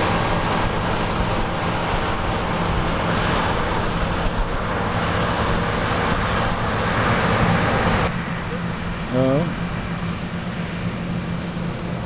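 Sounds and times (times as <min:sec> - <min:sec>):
harvester engine hum: 0:00.0 - 0:12.0.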